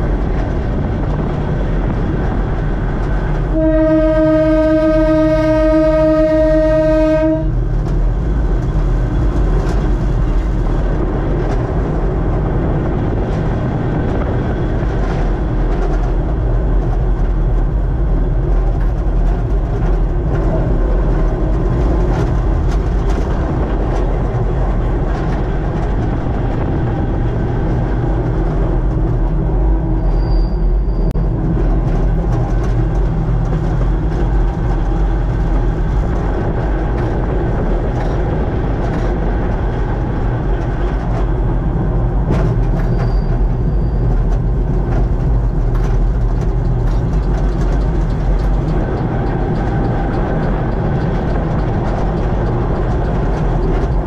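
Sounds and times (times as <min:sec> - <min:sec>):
train rumbling along track: 0:00.0 - 0:54.0
wheels clicking on rails: 0:00.0 - 0:54.0.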